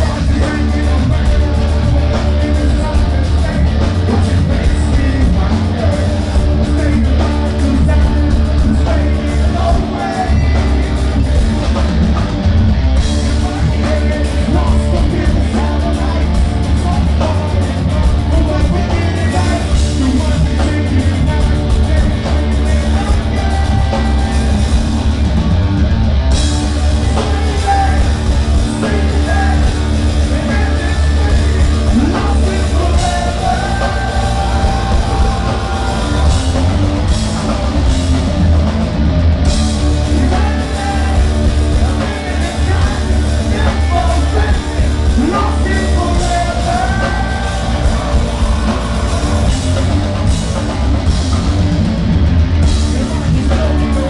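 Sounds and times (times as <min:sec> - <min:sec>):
person singing and yelling: 0:00.0 - 0:11.8, 0:13.2 - 0:25.2, 0:26.7 - 0:38.4, 0:39.8 - 0:50.7
live rock band playing: 0:00.0 - 0:54.0.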